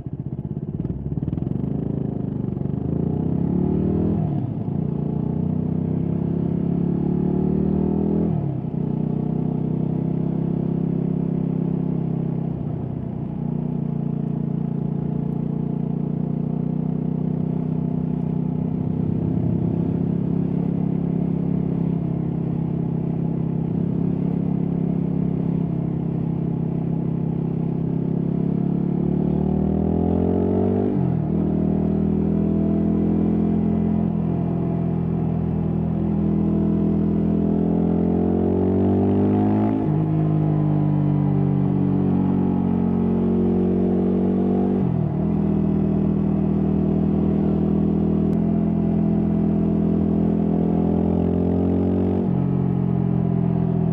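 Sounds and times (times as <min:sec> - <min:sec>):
motorcycle engine revving: 0:00.8 - 0:12.3, 0:16.4 - 0:53.9.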